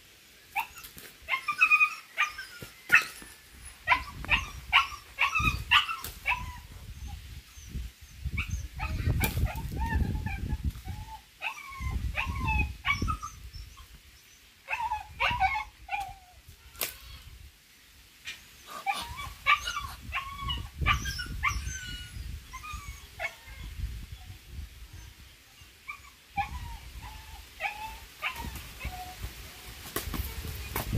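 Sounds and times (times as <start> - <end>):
animal cries yelps and squeals: 0.5 - 13.9, 14.6 - 17.2, 18.6 - 23.8, 25.0 - 29.2.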